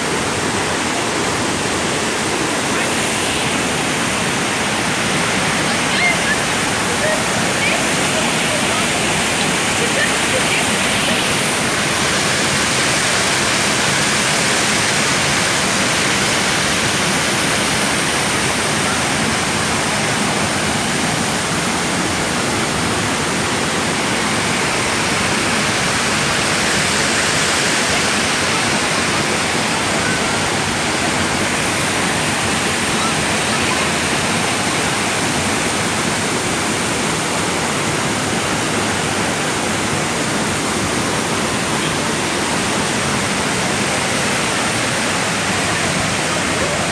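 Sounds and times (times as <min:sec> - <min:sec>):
waterfall pouring: 0:00.0 - 0:46.9.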